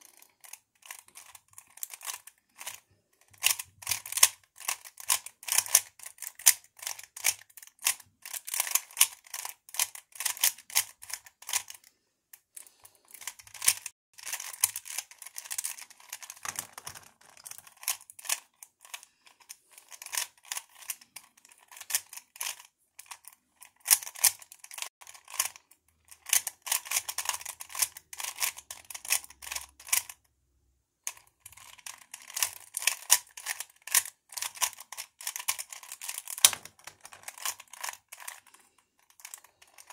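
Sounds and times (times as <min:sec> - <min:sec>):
puzzle cube layers clicking: 0:00.0 - 0:11.8, 0:13.2 - 0:25.6, 0:31.1 - 0:39.9.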